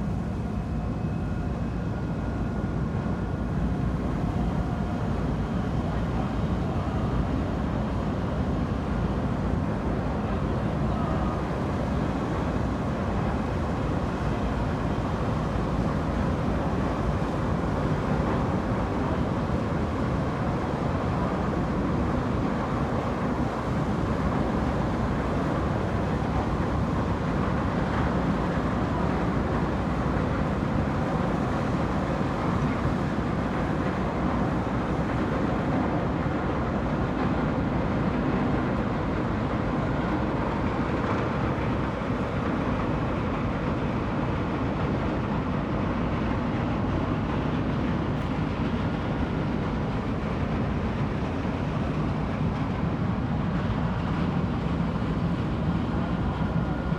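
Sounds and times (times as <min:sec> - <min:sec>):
ferry engines rumbling: 0:00.0 - 0:56.9.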